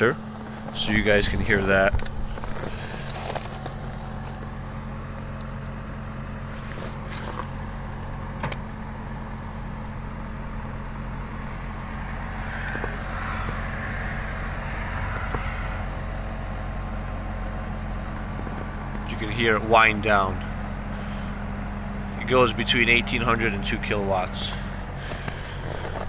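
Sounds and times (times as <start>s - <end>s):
heat pump compressor hum: 0.0s - 26.0s.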